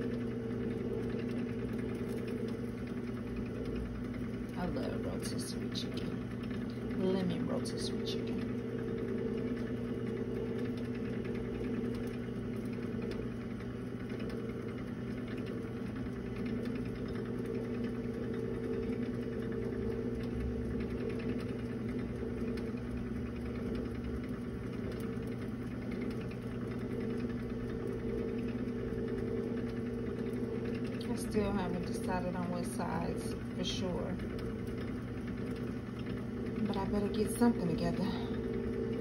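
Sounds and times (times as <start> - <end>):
rotisserie motor humming: 0.0 - 39.0.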